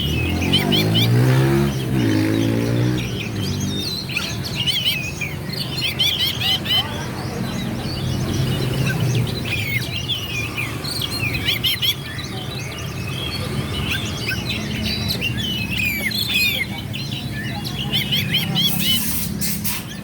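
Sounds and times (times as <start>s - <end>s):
songbird singing whistled notes: 0.0s - 20.0s.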